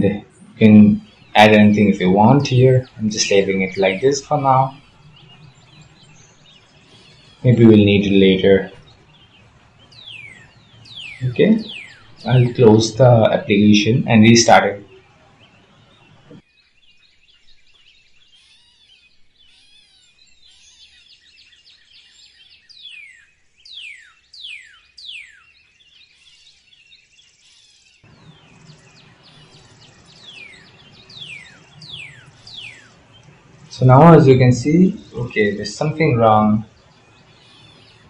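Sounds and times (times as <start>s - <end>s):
soft bird chirps: 0.0s - 38.0s.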